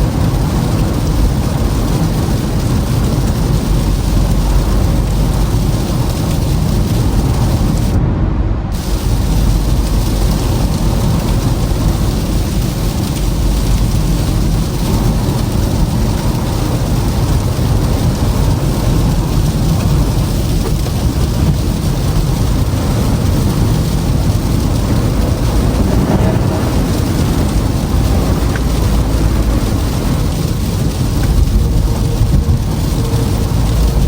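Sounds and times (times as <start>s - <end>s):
car tyres on icy road: 0.0s - 34.0s.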